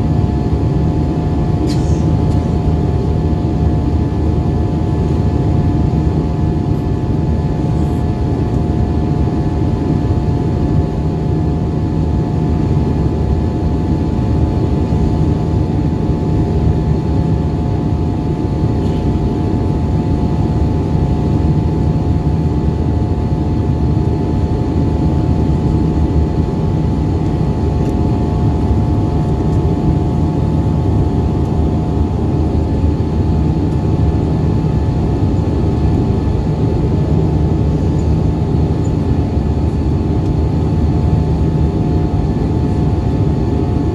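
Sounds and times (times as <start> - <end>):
jet engines humming in cabin: 0.0 - 43.9.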